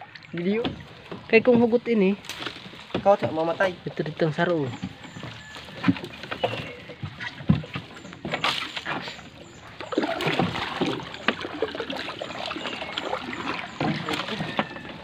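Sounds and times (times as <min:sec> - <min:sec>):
water splashing around boat: 0:00.0 - 0:15.0.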